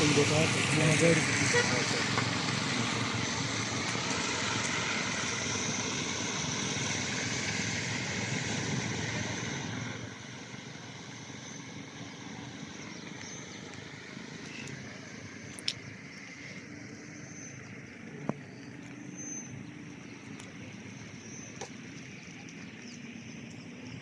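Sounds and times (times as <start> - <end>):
motor vehicle noise: 0.0 - 24.0.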